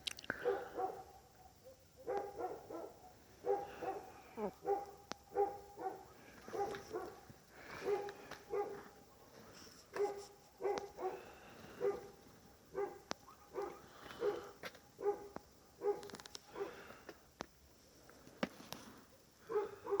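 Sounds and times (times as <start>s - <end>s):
dog barking: 0.4s - 9.3s, 9.9s - 16.9s, 19.4s - 20.0s.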